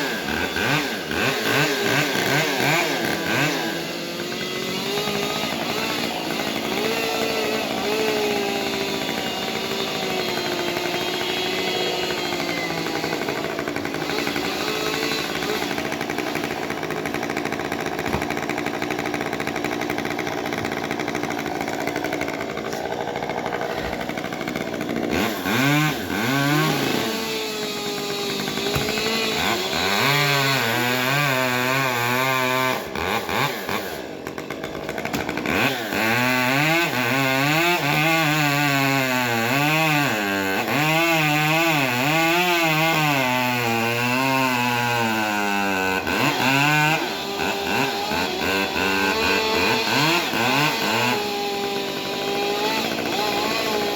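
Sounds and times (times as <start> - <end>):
chainsaw revving under load: 0.0 - 53.9.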